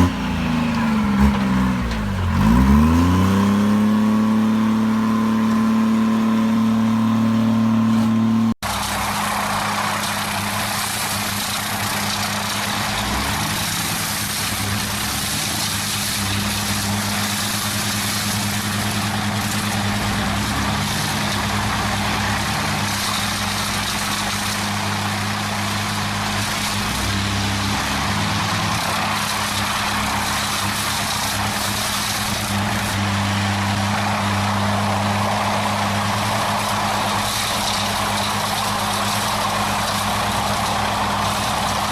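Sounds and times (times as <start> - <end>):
heavy machine engine droning: 0.0 - 41.9
broad rushing noise: 6.4 - 41.9.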